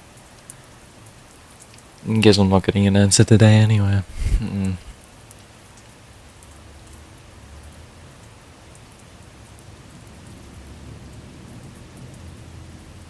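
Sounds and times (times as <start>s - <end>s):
steady rain falling: 0.0s - 3.2s, 5.3s - 13.0s.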